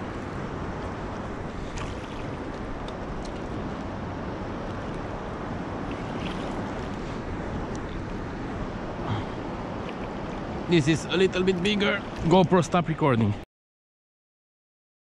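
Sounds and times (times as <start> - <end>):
wind rushing over microphone: 0.0 - 12.6
water lapping against bank: 0.0 - 13.2.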